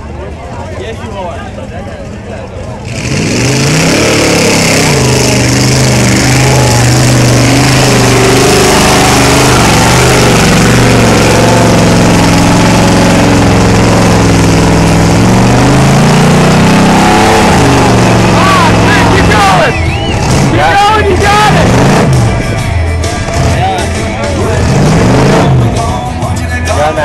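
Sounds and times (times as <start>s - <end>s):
engine revving high under load: 2.8s - 26.0s.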